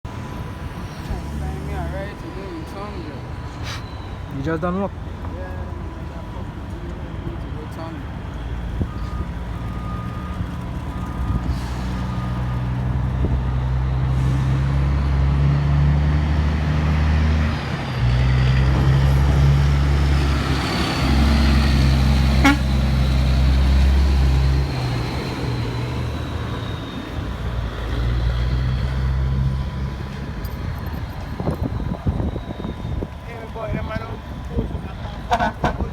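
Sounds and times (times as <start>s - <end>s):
diesel truck engine driving by: 0.1s - 35.9s.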